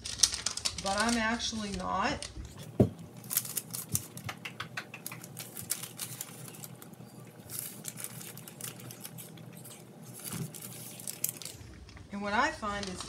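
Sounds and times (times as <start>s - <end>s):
faint steady hum: 0.0s - 13.0s
parchment paper crinkling: 0.0s - 13.0s.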